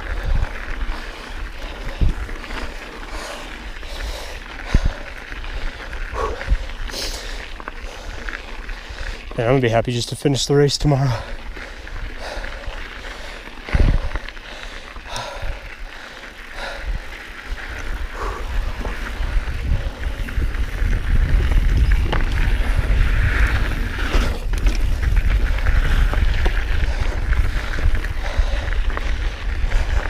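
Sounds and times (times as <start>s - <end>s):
wind rumble on microphone: 0.0s - 9.3s, 11.1s - 30.0s
bike tyres on dirt: 0.0s - 30.0s.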